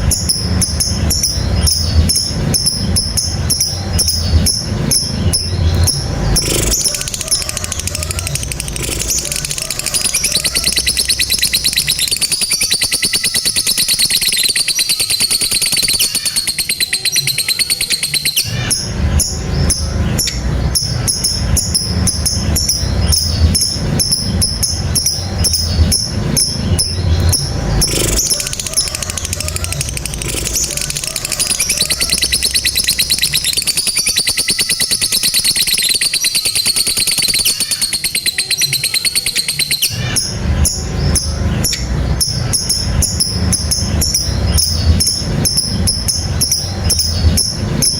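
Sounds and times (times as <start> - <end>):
rapid clicking chatter: 0.0 - 47.9
lovebird rattling trill: 0.1 - 47.9.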